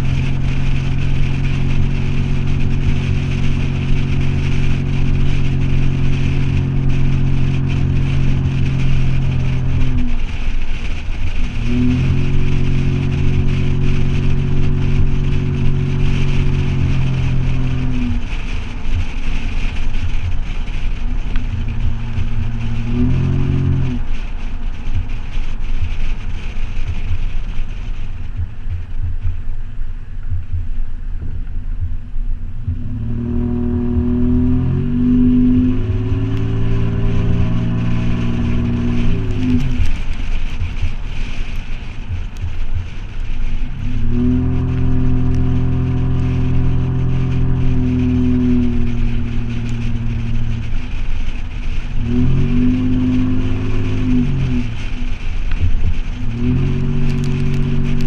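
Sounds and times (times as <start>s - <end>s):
engine droning through exhaust: 0.0s - 58.0s.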